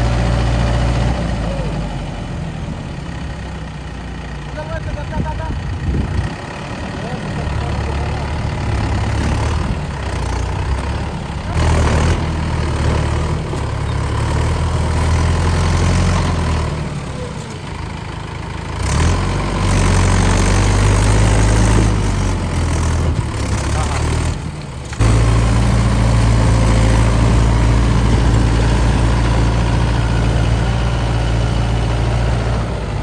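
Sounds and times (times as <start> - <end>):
tractor diesel engines straining: 0.0 - 33.0.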